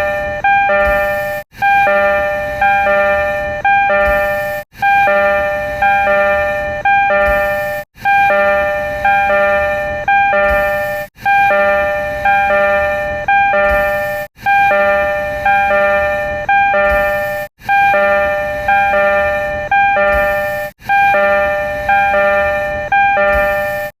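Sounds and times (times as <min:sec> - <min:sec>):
three-tone train door chime: 0:00.0 - 0:24.0.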